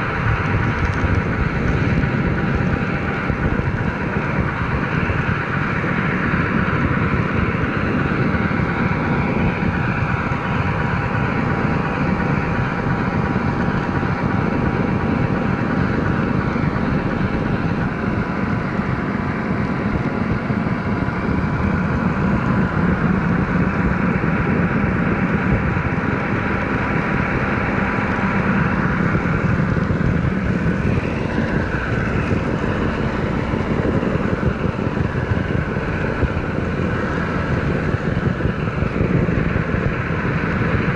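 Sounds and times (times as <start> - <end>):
model train running: 0.0 - 40.9.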